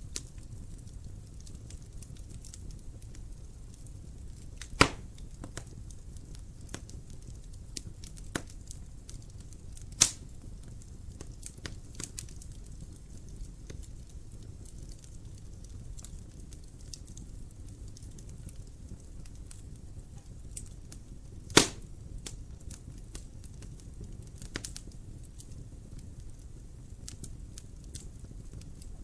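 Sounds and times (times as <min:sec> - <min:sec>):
loud fire pops: 0:00.0 - 0:29.0
wood fire crackling: 0:00.0 - 0:29.0.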